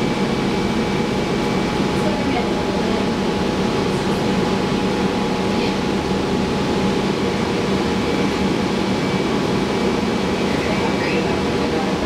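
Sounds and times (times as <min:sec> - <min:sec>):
bus engine and air conditioning hum: 0:00.0 - 0:12.0.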